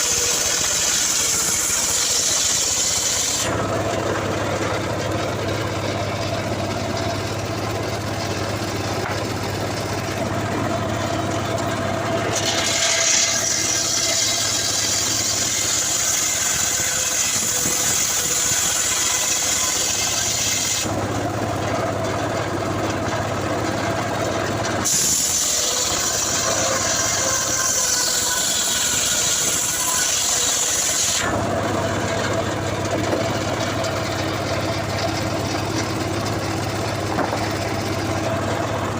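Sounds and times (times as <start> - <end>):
engine saw running: 0.0 - 38.9
saw rasping through wood: 0.0 - 38.9.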